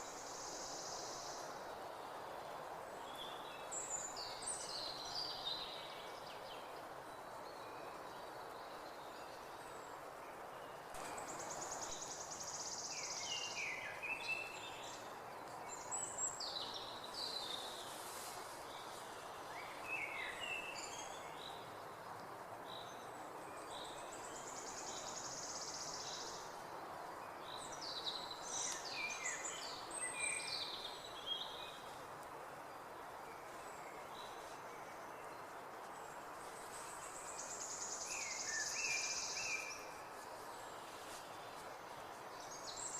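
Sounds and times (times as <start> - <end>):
songbirds singing: 0.0 - 42.9
steady background hiss: 0.0 - 42.9.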